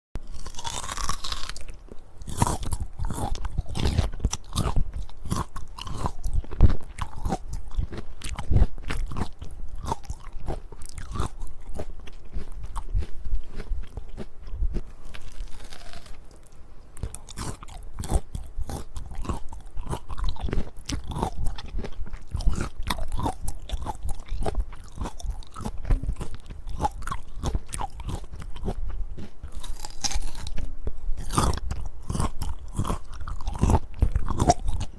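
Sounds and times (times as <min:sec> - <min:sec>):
biting and chewing fruit: 0:00.2 - 0:34.9.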